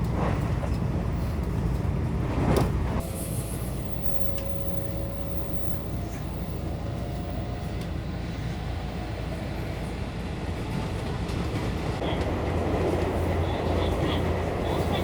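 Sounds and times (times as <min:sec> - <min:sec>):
train rumbling with faint whine: 0:00.0 - 0:15.0.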